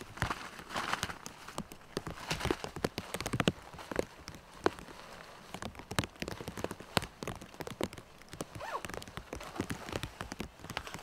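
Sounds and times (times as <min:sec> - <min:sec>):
raindrops tapping on tarp: 0:00.0 - 0:11.0.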